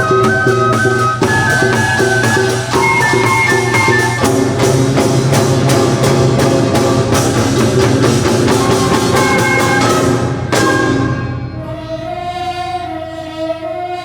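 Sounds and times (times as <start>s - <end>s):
drum and percussion strokes: 0.0s - 13.2s.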